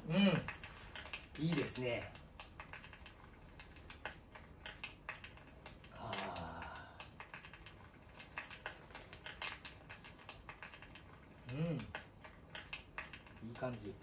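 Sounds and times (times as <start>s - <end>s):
fireplace crackling clicks: 0.2s - 14.0s.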